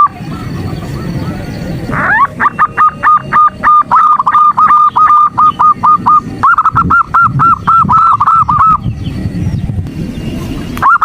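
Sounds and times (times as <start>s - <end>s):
dove calling in clipped notes: 0.0s - 11.0s.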